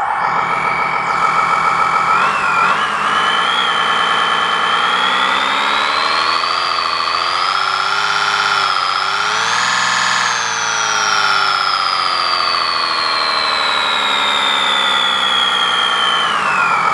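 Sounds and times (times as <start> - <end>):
simulated truck engine through loudspeaker: 0.0 - 16.9.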